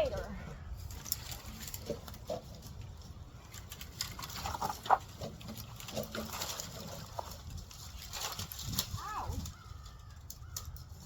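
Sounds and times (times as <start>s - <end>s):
brush rustling and crackling: 0.0s - 11.0s
twigs snapping: 0.8s - 11.0s.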